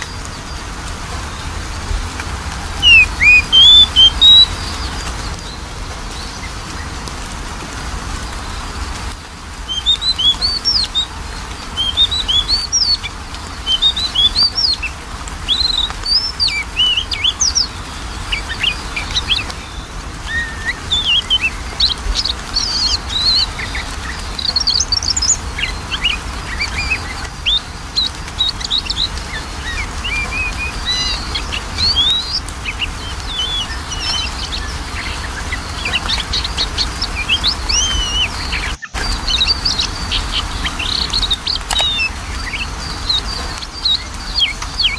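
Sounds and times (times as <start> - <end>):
songbird whistling and chirping: 2.5 - 6.9, 9.6 - 44.9.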